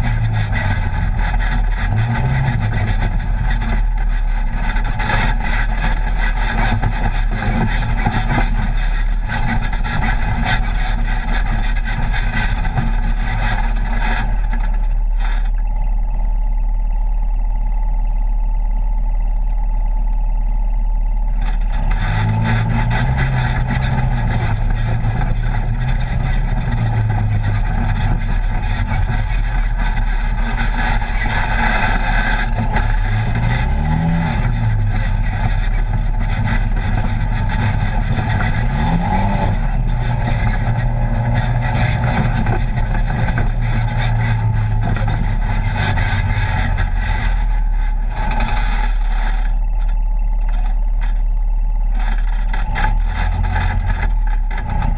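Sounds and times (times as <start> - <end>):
off-road vehicle engine revving: 0.0 - 54.9
trail noise: 0.0 - 54.9.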